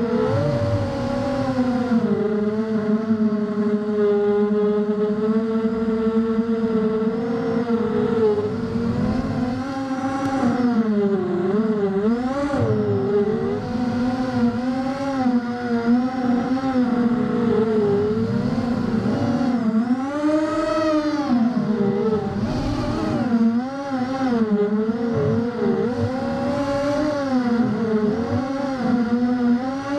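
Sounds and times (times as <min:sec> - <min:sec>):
quadcopter motors whining: 0:00.0 - 0:29.9.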